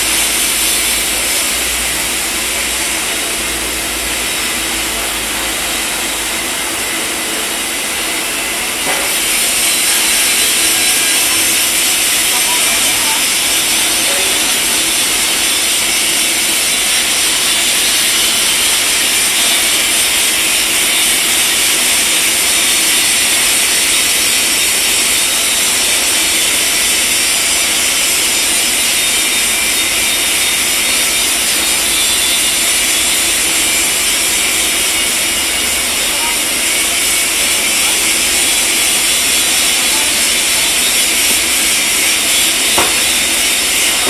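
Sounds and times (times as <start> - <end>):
loud steady hiss: 0.0 - 44.0.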